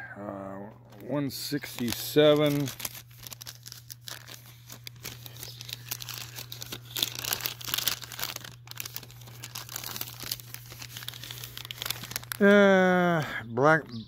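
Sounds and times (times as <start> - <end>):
paper receipts rustling: 0.8 - 12.7.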